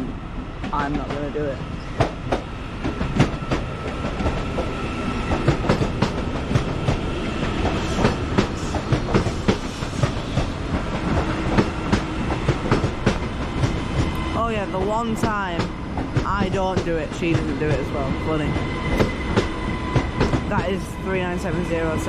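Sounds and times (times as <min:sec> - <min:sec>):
train rumble: 0:00.0 - 0:22.0
train wheels clicking over rail joints: 0:01.9 - 0:20.8.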